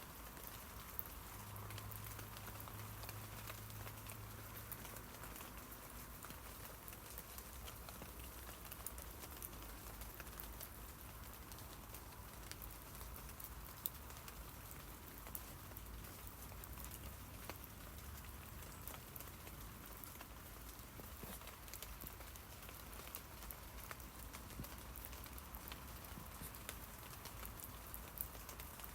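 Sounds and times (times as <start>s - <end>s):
rain pattering on leaves: 0.0s - 28.9s.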